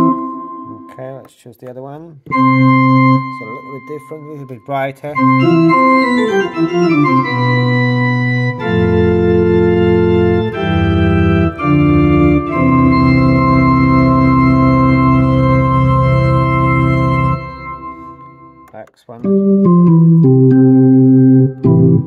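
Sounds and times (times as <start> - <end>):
digital piano organ chords: 0.0 - 1.3, 2.2 - 22.0.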